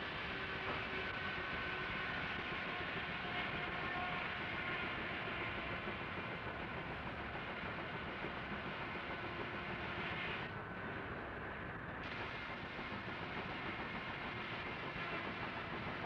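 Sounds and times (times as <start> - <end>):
faint steady tones: 0.0 - 16.0
steam machinery rumble and hiss: 0.0 - 16.0.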